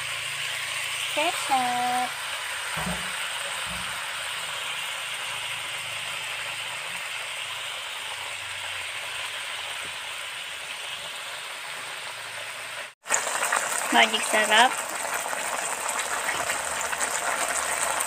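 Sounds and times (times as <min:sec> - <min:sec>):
sauce sizzling in a hot pan: 0:00.0 - 0:18.0.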